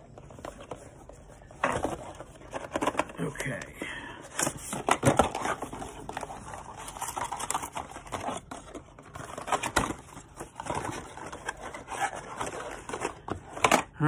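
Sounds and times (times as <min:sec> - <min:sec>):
packaging clicks and rustling: 0:00.0 - 0:14.0.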